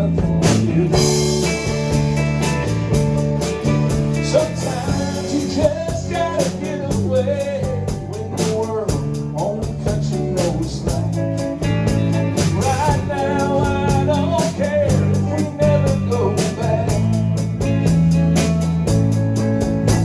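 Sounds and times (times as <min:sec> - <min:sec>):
band playing country-rock song: 0:00.0 - 0:20.0.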